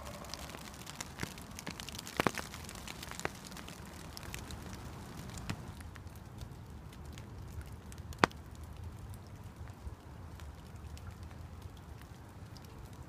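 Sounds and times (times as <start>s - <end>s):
light rain on a lake: 0.0s - 13.0s.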